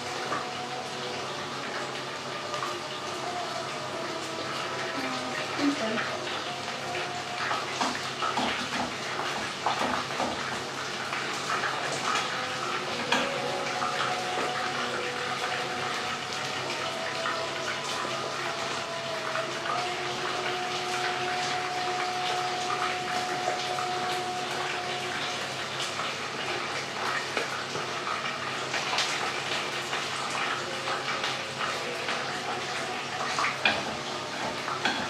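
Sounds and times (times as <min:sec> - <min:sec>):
chicken deep-frying in oil: 0:00.0 - 0:35.0.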